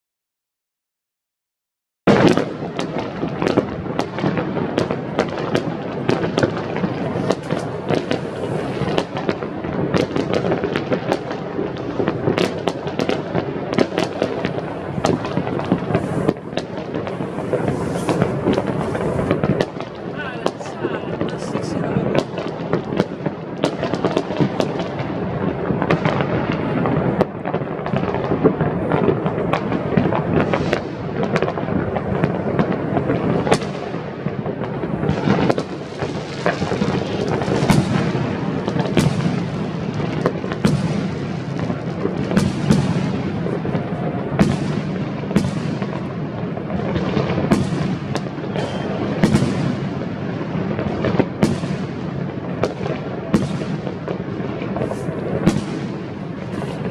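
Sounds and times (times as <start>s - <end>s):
fireworks bangs and crackling: 2.1s - 56.9s
rumble of distant explosions: 2.1s - 56.9s.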